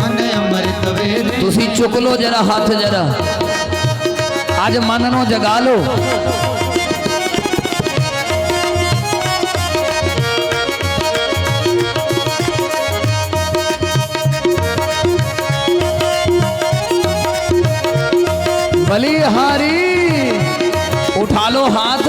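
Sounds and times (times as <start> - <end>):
tabla beat: 0.0 - 22.0
melody of held notes: 3.2 - 21.2.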